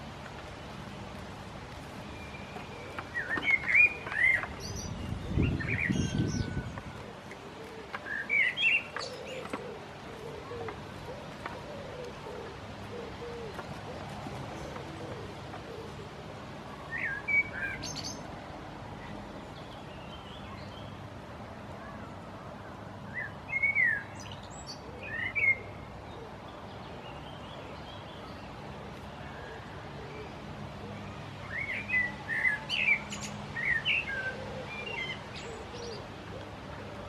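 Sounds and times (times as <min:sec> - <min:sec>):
songbirds chirping: 0:00.0 - 0:37.0.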